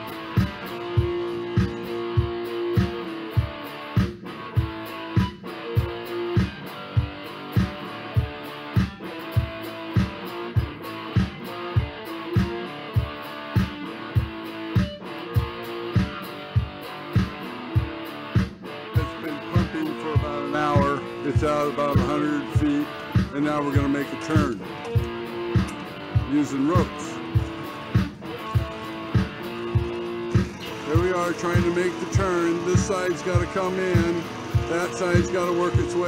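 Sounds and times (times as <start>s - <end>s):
guitar instrumental over a beat: 0.0s - 36.0s.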